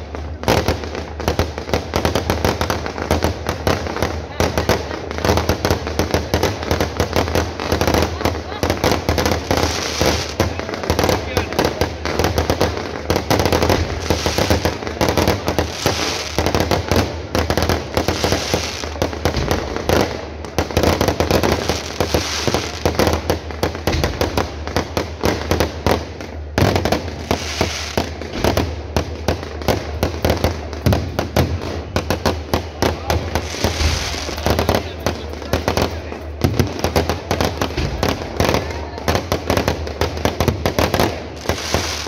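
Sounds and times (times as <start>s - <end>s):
fireworks crackling and banging: 0.0s - 42.0s.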